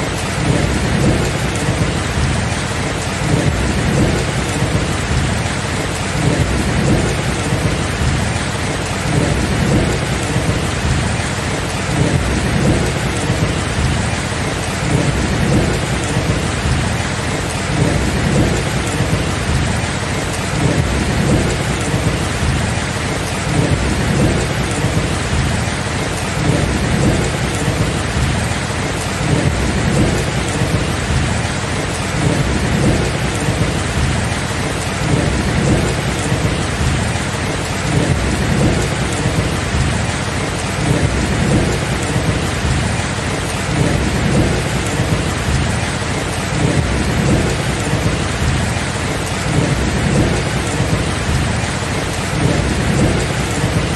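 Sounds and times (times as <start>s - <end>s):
heavy rain hissing: 0.0s - 53.9s
low rumble of thunder: 0.2s - 53.9s.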